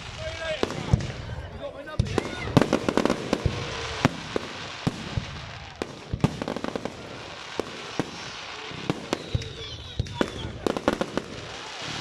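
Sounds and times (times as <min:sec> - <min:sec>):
fireworks bangs: 0:00.0 - 0:12.0
fireworks crackle and hiss: 0:00.0 - 0:12.0.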